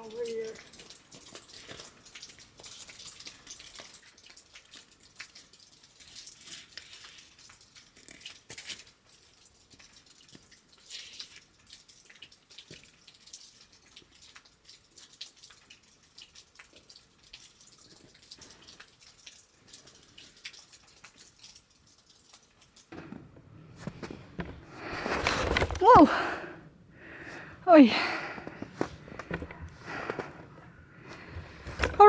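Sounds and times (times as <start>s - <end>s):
water drops pattering: 0.0s - 25.0s, 25.8s - 32.0s.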